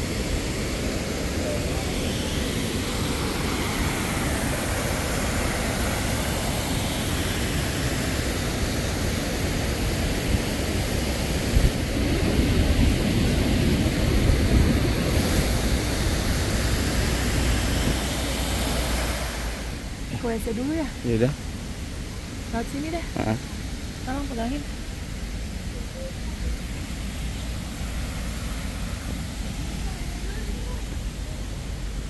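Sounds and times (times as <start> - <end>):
water rushing over waterfall: 0.0 - 32.0.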